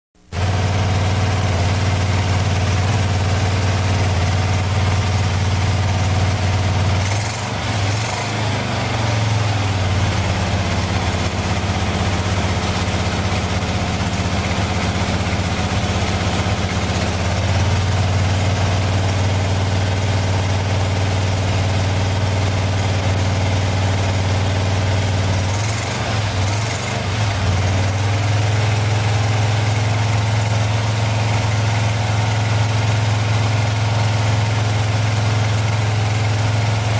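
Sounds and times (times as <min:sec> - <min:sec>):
engine rumbling on test stand: 0:00.2 - 0:36.9.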